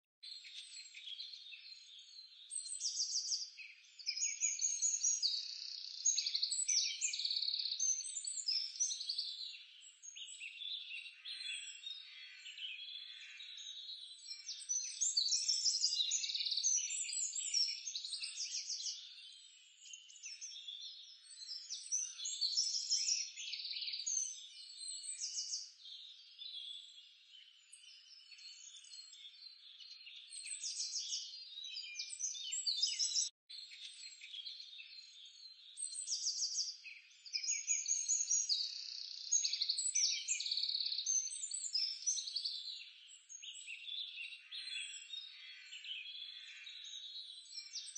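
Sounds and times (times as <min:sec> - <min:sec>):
small birds chirping: 0:00.2 - 0:47.9.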